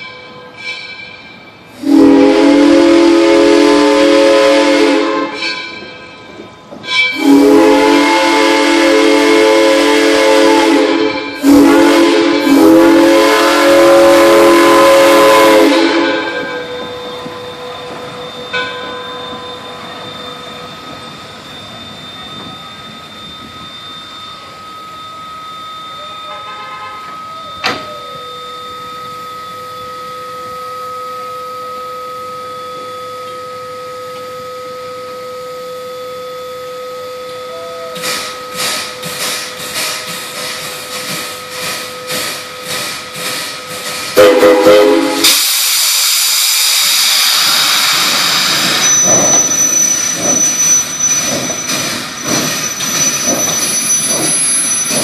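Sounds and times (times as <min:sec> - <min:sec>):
steam locomotive whistle blasts: 0:00.0 - 0:21.0, 0:21.8 - 0:55.0.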